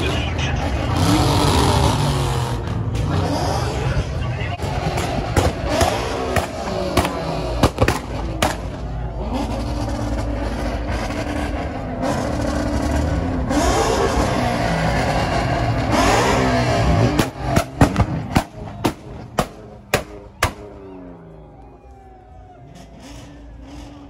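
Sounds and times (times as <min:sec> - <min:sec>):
car engine revving: 0:00.0 - 0:24.0
engine bangs: 0:00.0 - 0:24.0.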